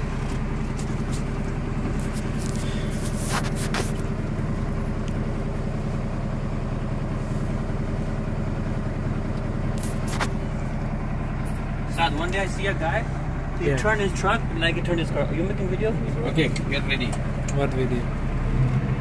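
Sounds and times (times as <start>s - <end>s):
truck engine running steadily: 0.0s - 19.0s.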